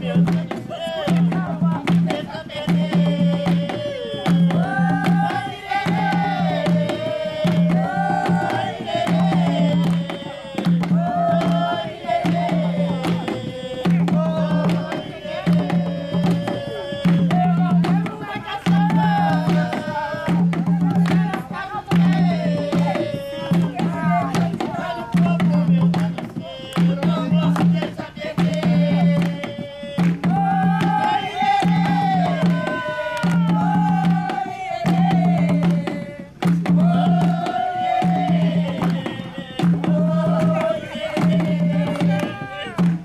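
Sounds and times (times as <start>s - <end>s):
hand drums: 0.0s - 43.0s.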